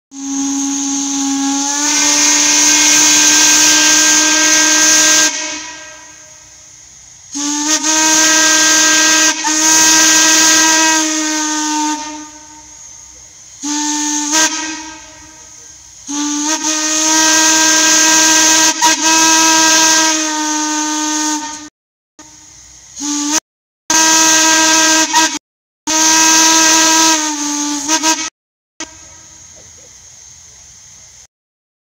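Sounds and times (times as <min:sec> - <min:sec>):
deep steam whistle blasts: 0:00.1 - 0:29.6
steam hissing: 0:00.1 - 0:31.3.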